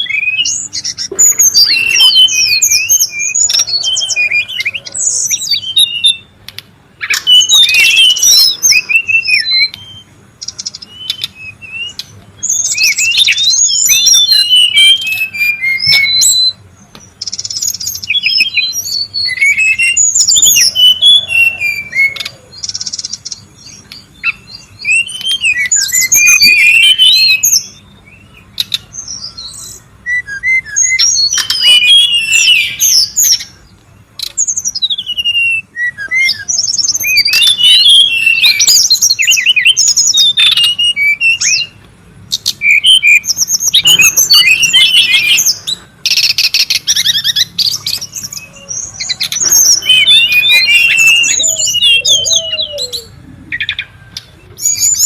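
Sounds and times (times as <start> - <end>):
bird chirping and whistling: 0.0 - 55.0.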